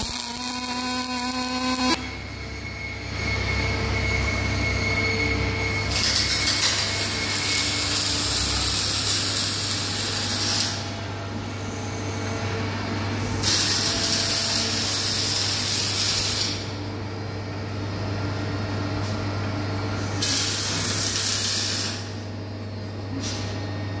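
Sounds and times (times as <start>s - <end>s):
low machine hum: 0.0s - 6.0s, 6.8s - 24.0s.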